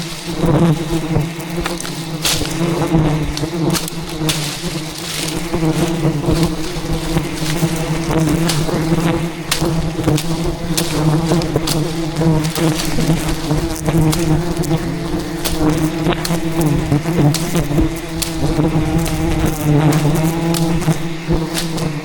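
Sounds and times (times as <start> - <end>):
bees buzzing loudly: 0.0 - 22.0
bees ticking against camera: 0.0 - 22.0.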